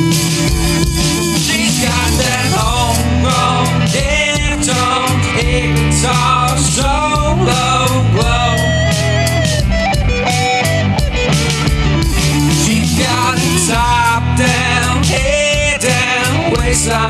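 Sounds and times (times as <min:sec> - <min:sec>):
melodic lead guitar line: 0:00.0 - 0:17.0
rock band playing: 0:00.0 - 0:17.0.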